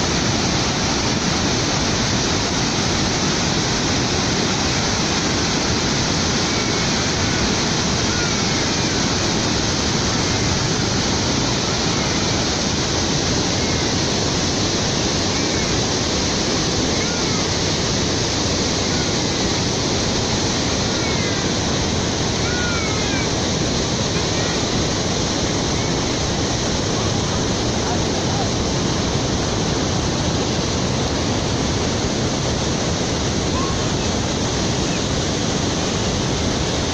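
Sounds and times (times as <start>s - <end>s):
waterfall roaring: 0.0s - 36.9s.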